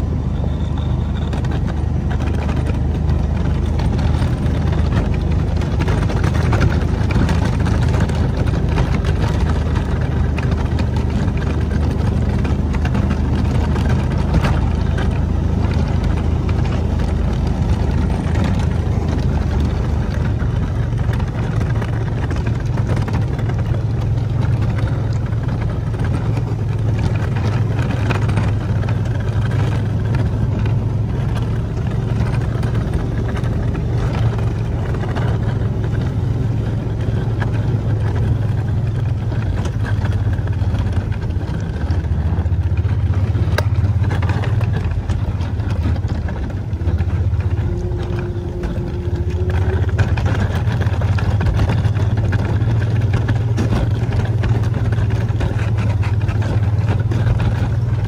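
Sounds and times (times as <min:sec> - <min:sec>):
utility vehicle engine droning: 0:00.0 - 0:58.0
faint clicks and rattles: 0:00.4 - 0:58.0.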